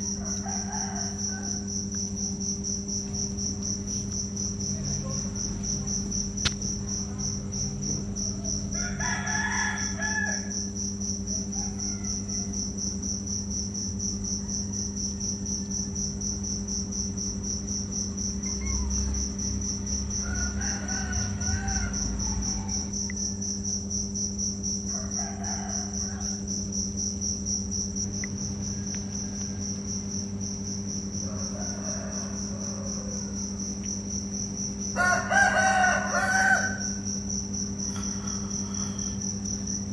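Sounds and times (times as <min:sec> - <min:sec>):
cricket trilling: 0:00.0 - 0:39.9
low steady hum: 0:00.0 - 0:39.9.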